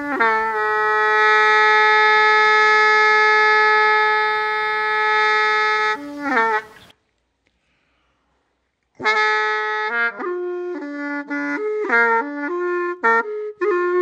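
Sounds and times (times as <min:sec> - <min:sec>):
reedy wind instrument: 0:00.0 - 0:07.0, 0:08.9 - 0:14.0.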